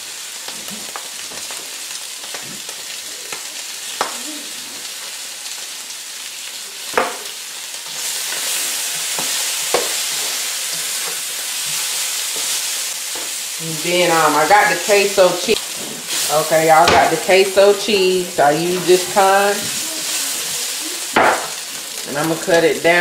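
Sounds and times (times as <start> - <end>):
chicken sizzling in a skillet: 0.0 - 23.0.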